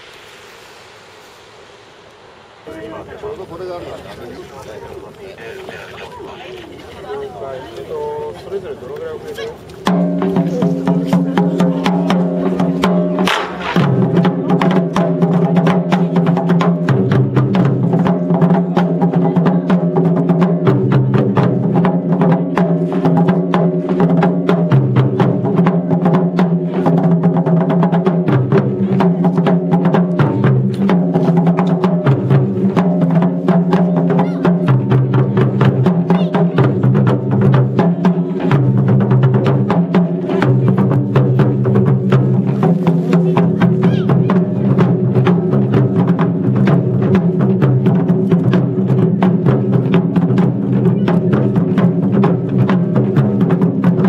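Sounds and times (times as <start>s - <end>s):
clicking percussive beat: 8.9s - 54.0s.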